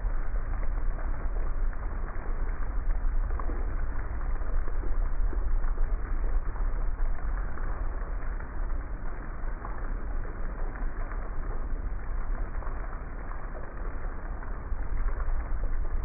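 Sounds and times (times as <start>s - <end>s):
heavy rain falling: 0.0s - 16.0s
low rumble: 0.0s - 16.0s.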